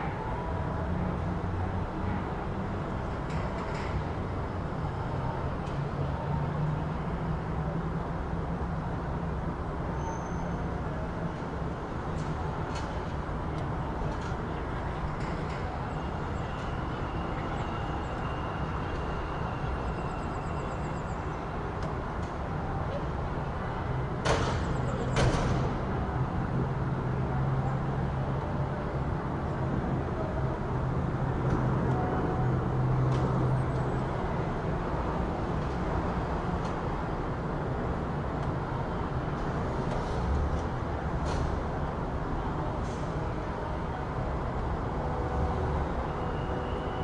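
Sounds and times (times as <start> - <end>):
street traffic noise: 0.0 - 47.0.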